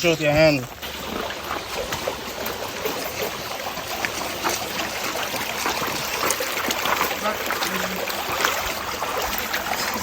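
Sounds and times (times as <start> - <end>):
river water running: 0.0 - 10.0
small water splashes: 0.0 - 10.0.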